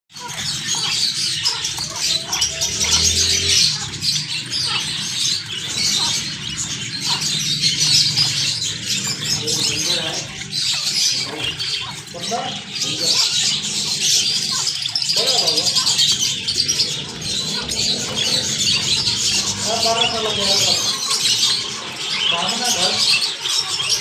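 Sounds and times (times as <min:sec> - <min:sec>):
sparrows chirping: 0:00.1 - 0:24.0.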